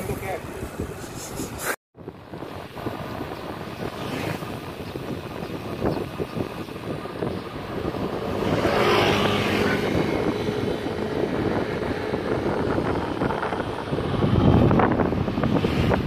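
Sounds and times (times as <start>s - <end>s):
wind rushing on microphone: 0.0s - 16.0s
moving vehicle drone: 2.2s - 16.0s.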